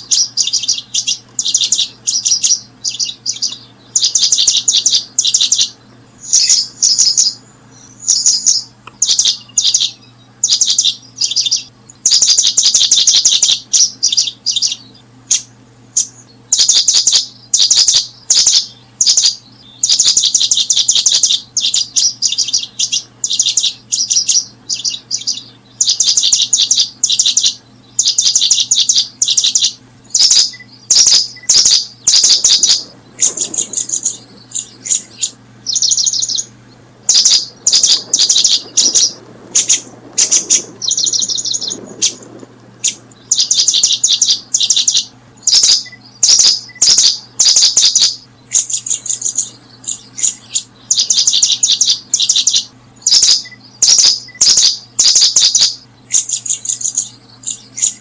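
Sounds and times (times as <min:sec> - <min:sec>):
bird chirping in rattling bursts: 0:00.0 - 0:58.0.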